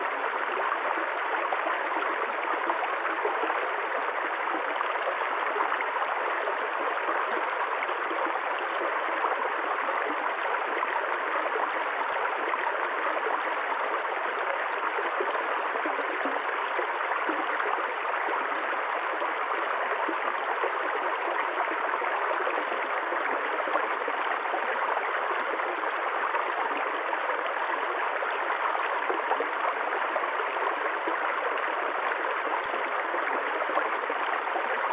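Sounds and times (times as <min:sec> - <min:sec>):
running water flowing: 0:00.0 - 0:34.9.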